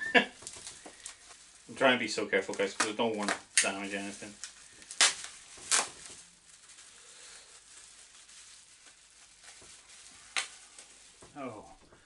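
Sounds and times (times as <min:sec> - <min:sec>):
sharp crackle: 0:00.0 - 0:11.8
bubble wrap rustling: 0:00.0 - 0:12.0.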